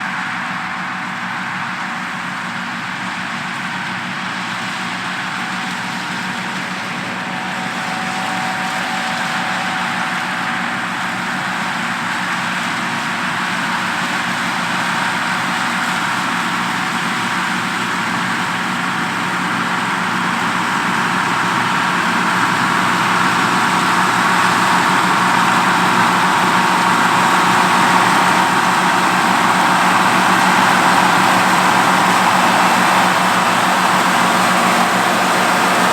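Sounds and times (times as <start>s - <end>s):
corn picker machinery: 0.0s - 35.9s
tractor engine under load: 0.0s - 35.9s.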